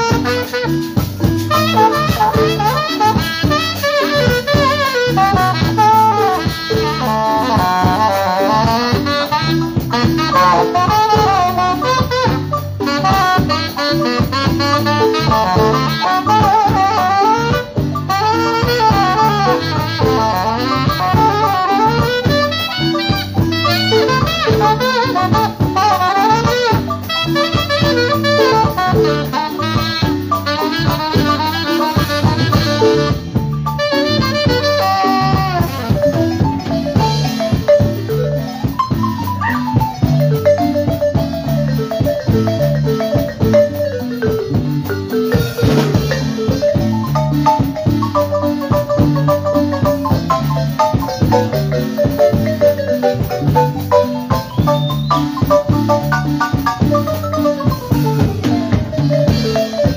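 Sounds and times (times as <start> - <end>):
drum kit beat: 0.0 - 59.9
electric bass: 0.0 - 59.9
marimba rapid runs: 0.0 - 59.9.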